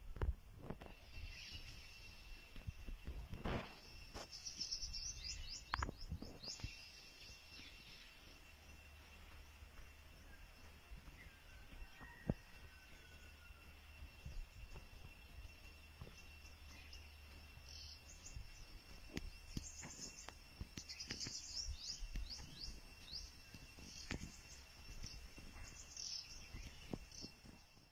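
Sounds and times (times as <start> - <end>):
high insect tone: 0.0 - 27.9
small birds chirping: 0.2 - 13.0, 13.8 - 27.9.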